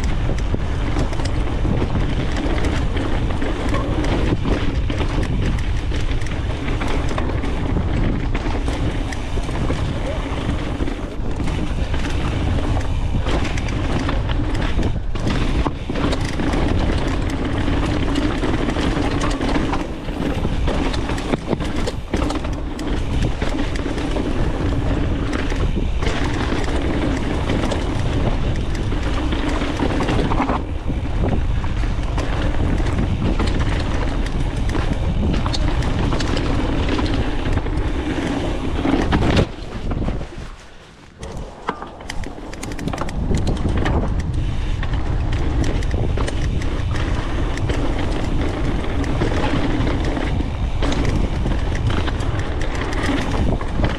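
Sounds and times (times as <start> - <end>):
bike knocks and rattles: 0.0 - 53.9
tyres on dirt: 0.0 - 53.9
wind on microphone: 0.0 - 53.9.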